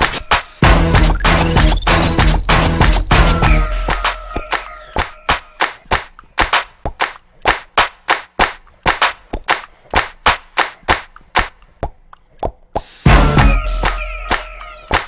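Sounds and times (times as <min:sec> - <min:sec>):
rhythmic hand claps: 0:00.0 - 0:15.0.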